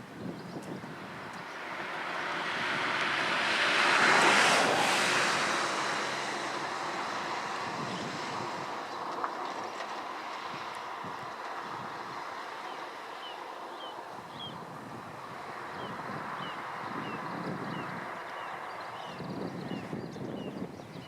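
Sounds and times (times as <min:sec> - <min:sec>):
vehicle passing: 0:00.9 - 0:19.9.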